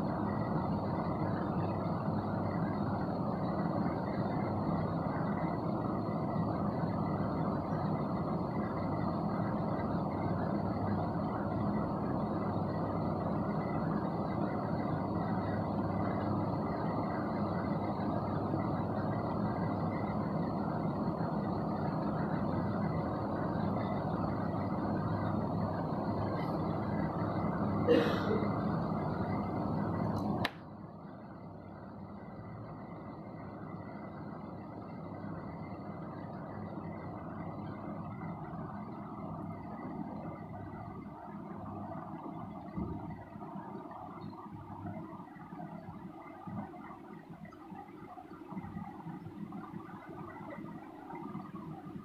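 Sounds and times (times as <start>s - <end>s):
faint high whine: 0.0s - 52.0s
low background rumble: 0.0s - 52.0s.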